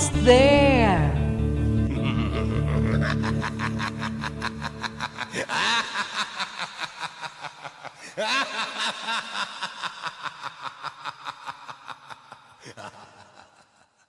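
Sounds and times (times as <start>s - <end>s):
cackling laugh: 1.9s - 14.0s.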